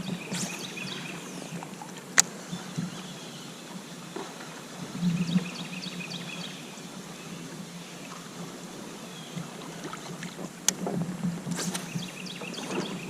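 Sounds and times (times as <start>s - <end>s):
river water: 0.0s - 13.0s.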